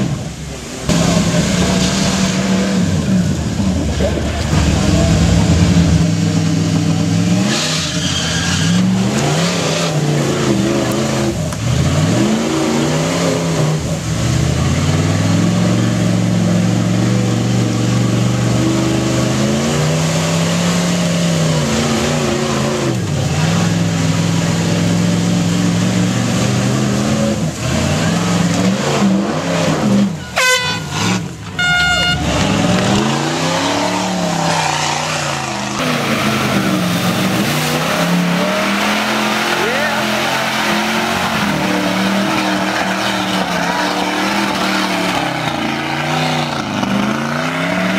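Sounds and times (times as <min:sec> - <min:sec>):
truck engine revving: 0:00.0 - 0:47.9.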